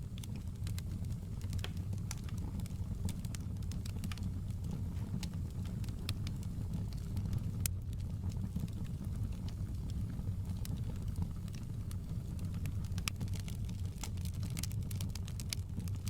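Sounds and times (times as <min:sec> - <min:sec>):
fire low rumble: 0:00.0 - 0:16.0
wood fire pops and snaps: 0:00.0 - 0:16.0.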